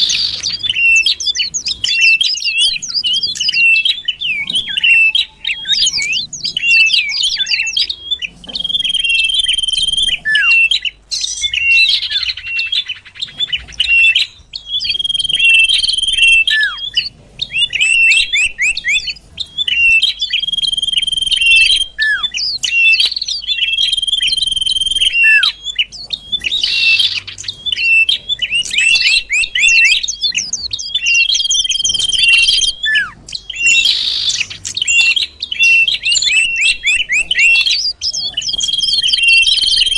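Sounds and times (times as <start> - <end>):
bird whistling and chirping: 0.0 - 39.9.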